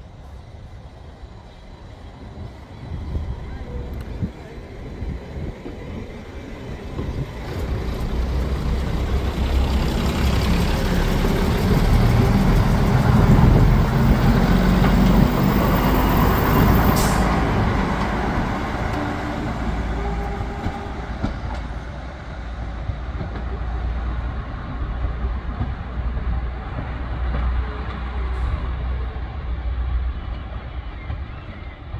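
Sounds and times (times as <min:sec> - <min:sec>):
diesel train engines running: 0:00.0 - 0:31.9
train wheels on rails: 0:00.1 - 0:31.9.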